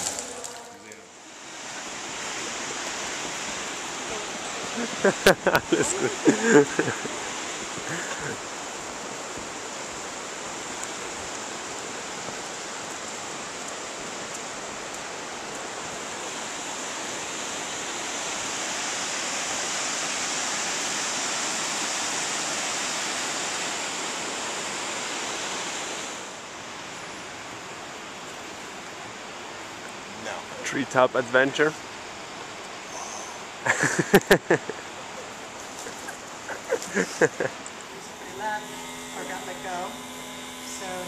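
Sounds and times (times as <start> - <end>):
river water rushing: 0.0 - 38.8.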